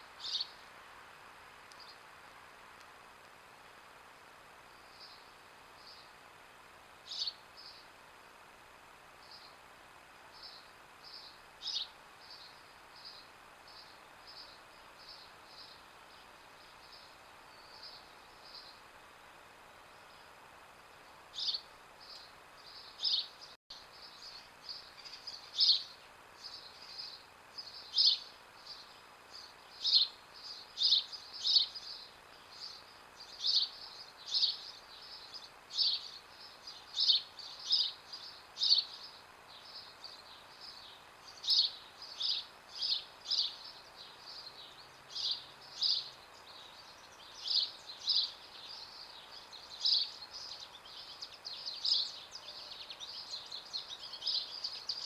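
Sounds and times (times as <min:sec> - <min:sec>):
bird chirping: 0:00.0 - 0:00.6, 0:04.7 - 0:06.2, 0:07.1 - 0:07.9, 0:10.3 - 0:18.9, 0:21.3 - 0:55.0
faint steady hiss: 0:00.0 - 0:55.0.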